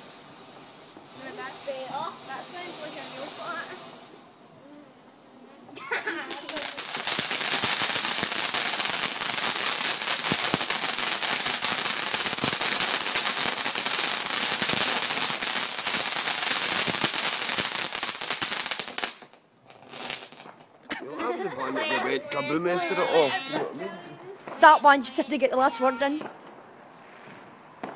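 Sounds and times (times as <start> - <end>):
firework crackling: 0.0 - 27.9.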